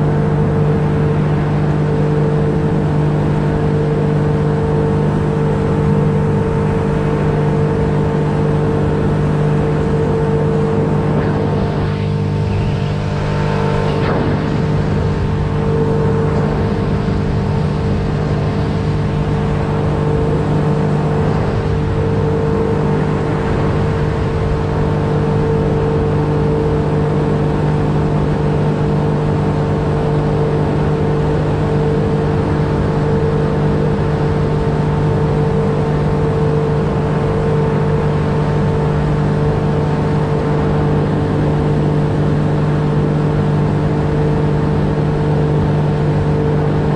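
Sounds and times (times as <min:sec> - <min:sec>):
outboard motor droning: 0:00.0 - 0:46.9
water rushing along hull: 0:00.0 - 0:46.9.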